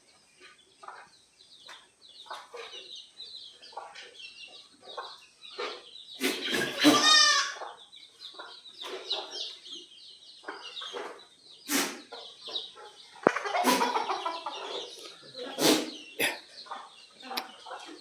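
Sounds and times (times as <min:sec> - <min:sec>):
chickens clucking: 0:00.0 - 0:18.0
high chirping: 0:00.8 - 0:18.0.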